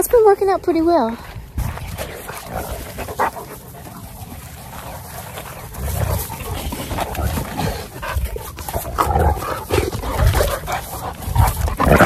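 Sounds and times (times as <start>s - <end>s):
dogs growling and huffing: 1.6s - 12.0s.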